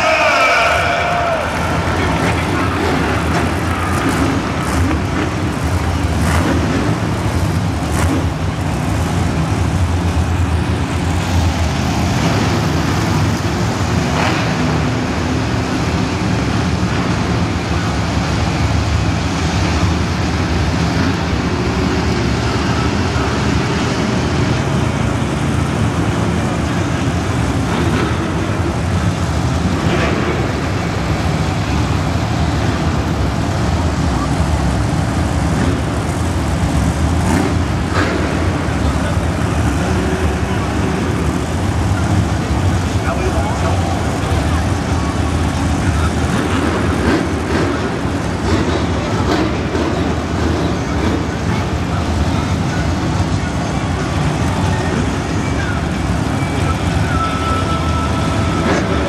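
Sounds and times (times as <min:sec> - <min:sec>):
monster truck engines running loudly: 0:00.0 - 0:59.0.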